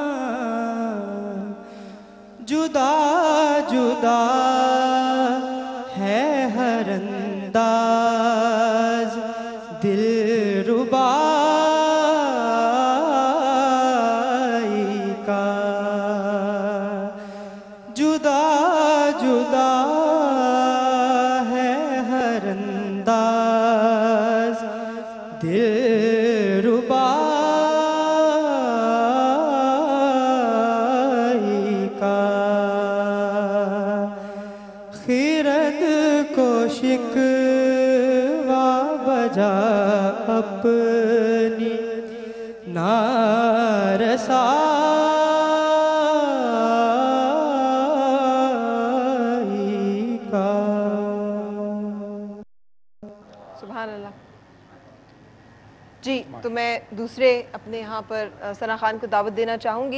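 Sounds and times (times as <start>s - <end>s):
man singing a hymn: 0.0s - 1.8s, 2.4s - 34.4s, 35.0s - 52.4s.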